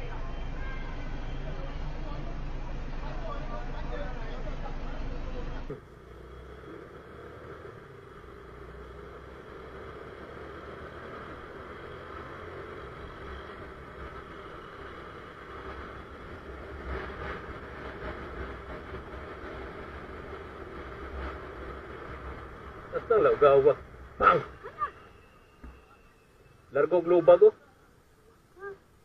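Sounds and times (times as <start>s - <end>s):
motorcycle engine rumble: 0.0s - 26.8s
road noise: 0.0s - 29.0s.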